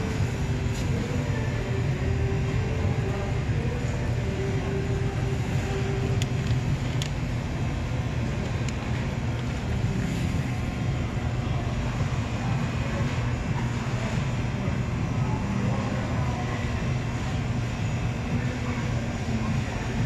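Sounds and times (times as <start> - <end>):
supermarket background rumble: 0.0 - 20.0.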